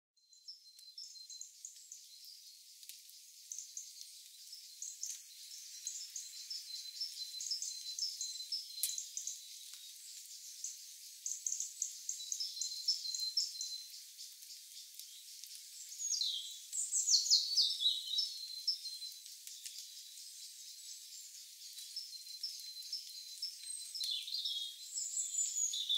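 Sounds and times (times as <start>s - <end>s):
birds chirping: 0.2s - 25.9s.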